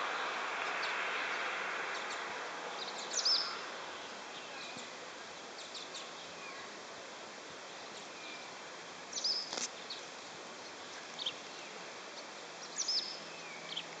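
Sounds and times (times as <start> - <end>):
songbirds chirping: 0.0 - 14.0
steady background hiss: 0.0 - 14.0.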